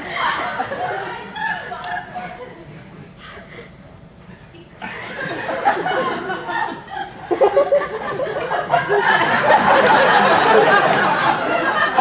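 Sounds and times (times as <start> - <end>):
audience laughing: 0.0 - 2.8, 4.8 - 12.0.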